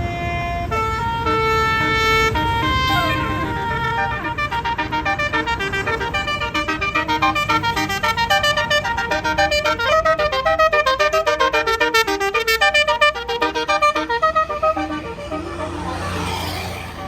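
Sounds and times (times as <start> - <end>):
bus musical horn melody: 0.0 - 17.0.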